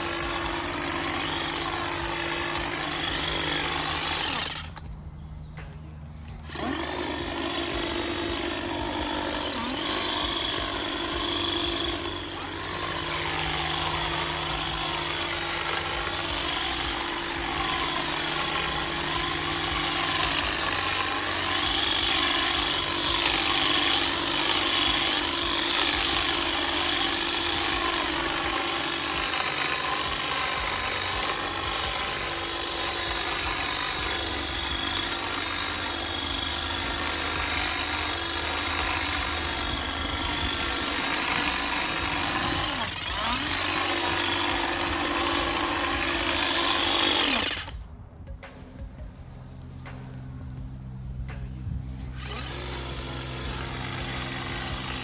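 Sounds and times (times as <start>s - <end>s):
motorised garden power tool running: 0.0s - 47.8s, 50.0s - 55.0s.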